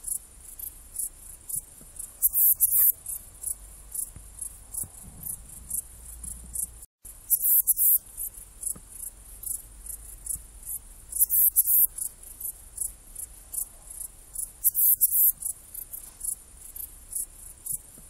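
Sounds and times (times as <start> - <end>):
bush-cricket chirping: 0.0 - 18.0.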